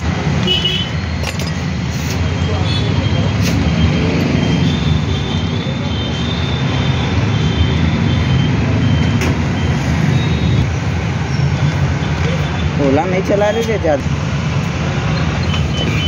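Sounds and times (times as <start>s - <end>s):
road traffic noise: 0.0s - 16.0s
vehicle engine: 0.0s - 16.0s.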